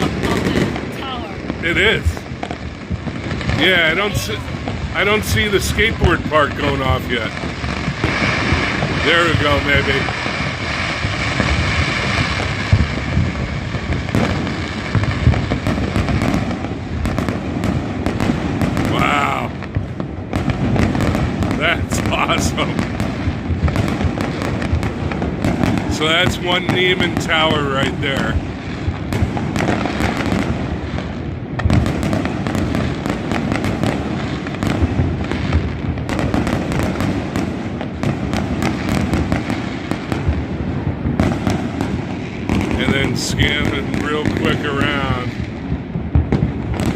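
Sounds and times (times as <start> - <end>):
fireworks booming and crackling: 0.0 - 46.9
fireworks pops and cracks: 0.0 - 46.9.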